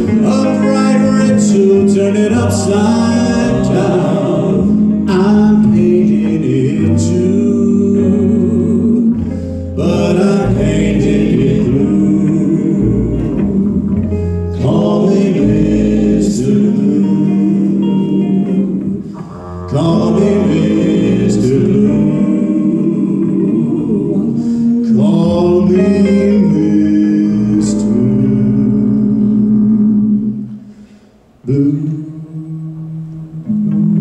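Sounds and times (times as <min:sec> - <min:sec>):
upright bass: 0:00.0 - 0:30.6
male vocal quartet singing: 0:00.0 - 0:30.8, 0:31.4 - 0:33.8
guitar: 0:00.0 - 0:34.0.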